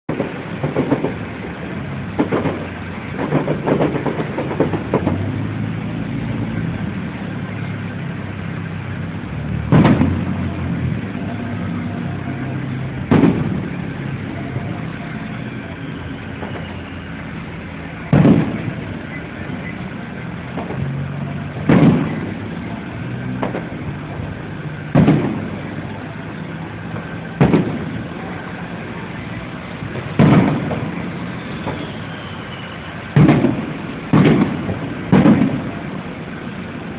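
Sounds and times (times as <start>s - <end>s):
fireworks pops and crackles: 0.0s - 36.9s
loud fireworks booms: 0.0s - 36.9s.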